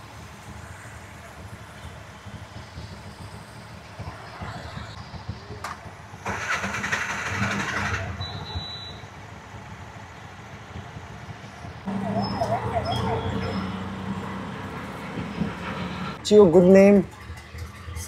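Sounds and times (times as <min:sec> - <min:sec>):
auto-rickshaw engine running: 0:00.0 - 0:16.2
traffic noise: 0:00.0 - 0:18.0.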